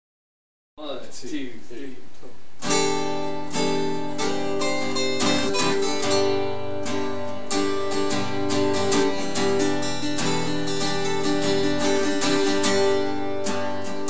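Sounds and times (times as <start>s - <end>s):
acoustic guitar strumming chords: 2.6s - 14.0s.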